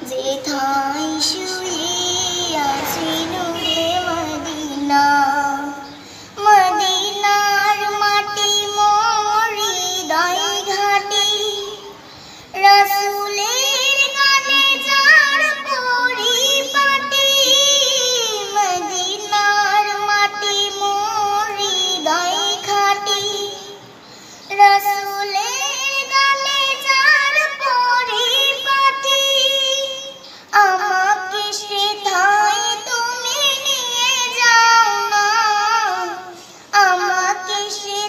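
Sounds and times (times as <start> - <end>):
girl singing devotional song: 0.0 - 38.0.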